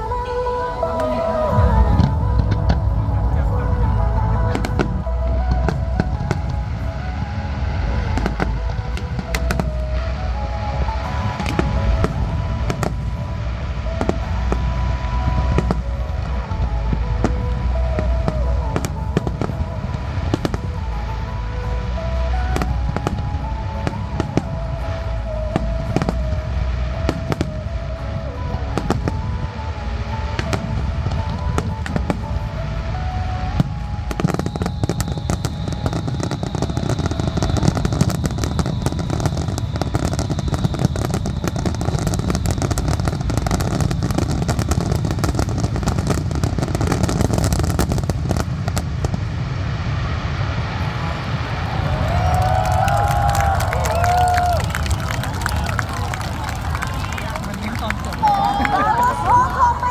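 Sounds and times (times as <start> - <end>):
fireworks bursting: 0.0 - 59.9
music: 0.0 - 59.9
crackling firework bursts: 0.9 - 59.9.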